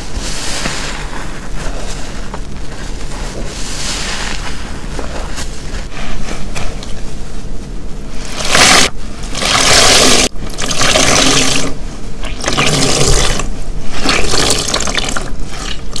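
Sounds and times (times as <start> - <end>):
sponge squelching water: 0.0 - 7.1, 8.2 - 16.0.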